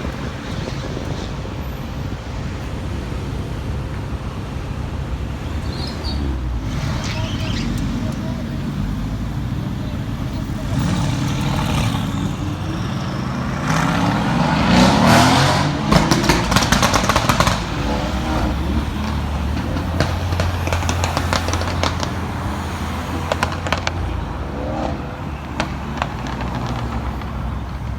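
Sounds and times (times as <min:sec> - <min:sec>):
exhaust pops and crackles: 0:00.0 - 0:27.9
car engine revving: 0:02.2 - 0:27.7.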